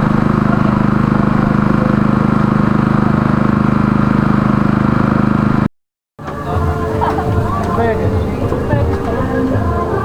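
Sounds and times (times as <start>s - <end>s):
engine running with fast pulse: 0.0s - 10.0s.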